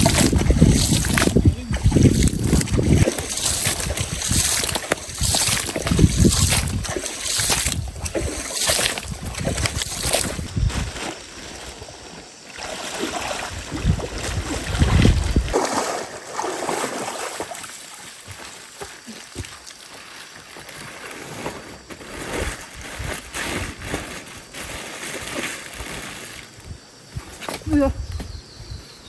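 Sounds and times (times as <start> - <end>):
water splashing in a stream: 0.0 - 23.7.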